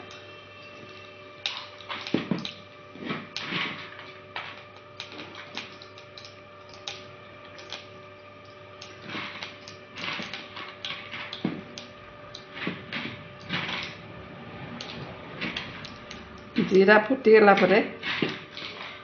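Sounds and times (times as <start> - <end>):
seeds crackling and popping in oil: 0.0 - 14.0, 14.7 - 17.6.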